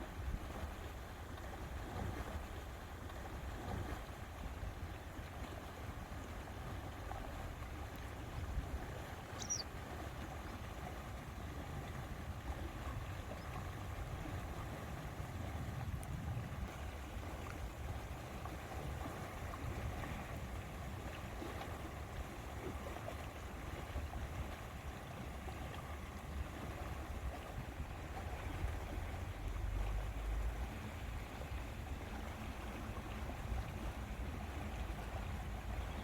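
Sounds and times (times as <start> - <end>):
lake water washing: 0.0 - 36.0
wind rumbling on microphone: 0.0 - 36.0.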